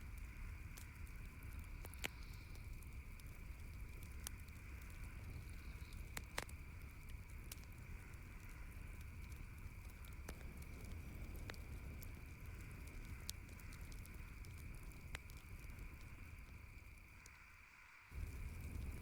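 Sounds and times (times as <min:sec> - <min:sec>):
campfire crackling and popping: 0:00.0 - 0:19.0
faint hiss: 0:00.0 - 0:19.0.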